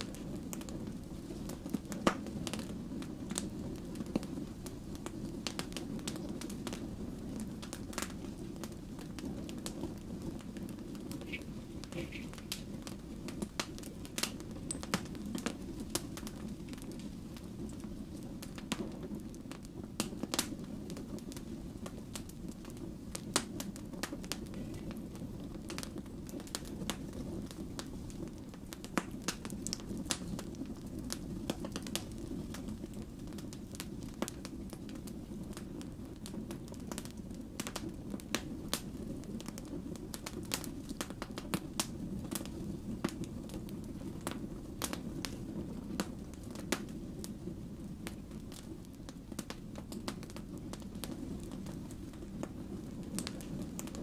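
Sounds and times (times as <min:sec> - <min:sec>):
firewood crackling and popping: 0:00.0 - 0:54.0
low rumble of flames: 0:00.0 - 0:54.0.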